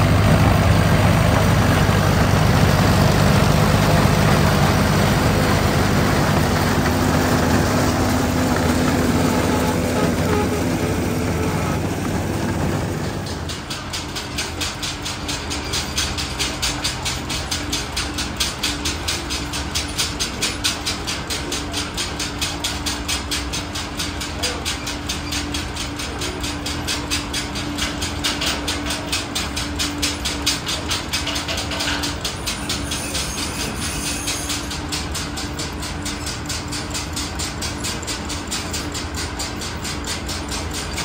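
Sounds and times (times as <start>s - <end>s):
tractor engine chugging: 0.0s - 41.0s.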